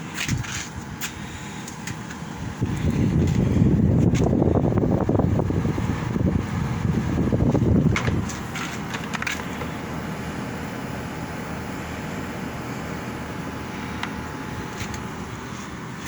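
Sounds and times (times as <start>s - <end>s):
air conditioner humming: 0.0s - 16.0s
wind buffeting microphone: 0.0s - 16.0s.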